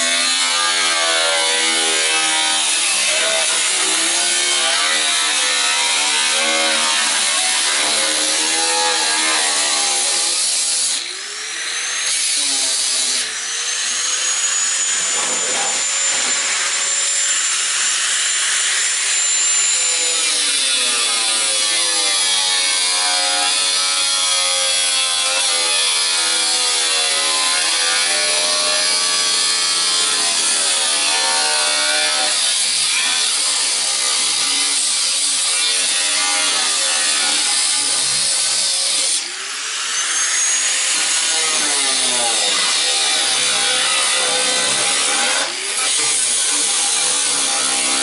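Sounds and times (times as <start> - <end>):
power tool cutting sheet steel: 0.0 - 48.0.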